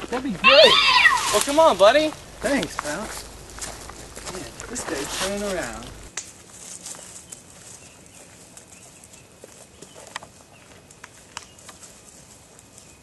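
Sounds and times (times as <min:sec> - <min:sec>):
footsteps on dirt and dry leaves: 0:00.0 - 0:13.0.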